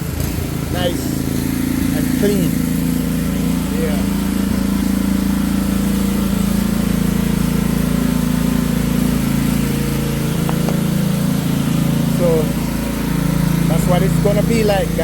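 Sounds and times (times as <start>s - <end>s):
pressure washer petrol engine: 0.0s - 15.0s.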